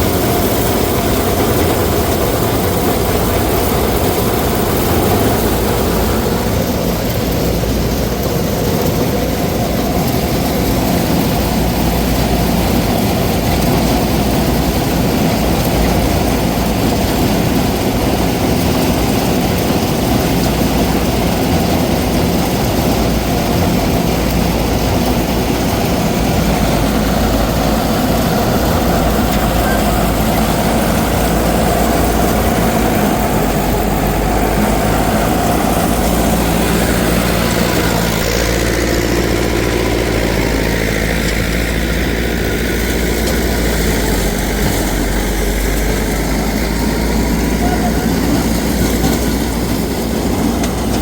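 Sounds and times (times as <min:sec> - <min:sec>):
heavy engine running: 0:00.0 - 0:51.0.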